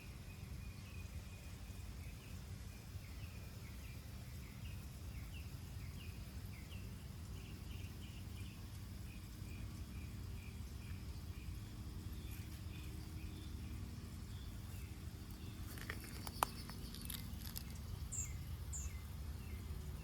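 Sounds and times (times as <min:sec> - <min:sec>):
low outdoor rumble: 0:00.0 - 0:20.0
small bird chirping: 0:00.0 - 0:20.0.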